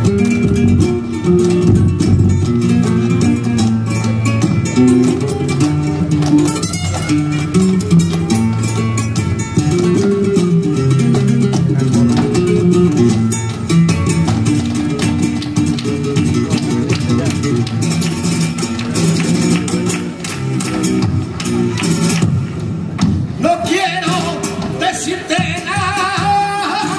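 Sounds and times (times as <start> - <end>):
rhythmic hand clapping: 0.0 - 23.2
dancer's footwork: 0.0 - 23.5
flamenco guitar playing: 0.0 - 26.9.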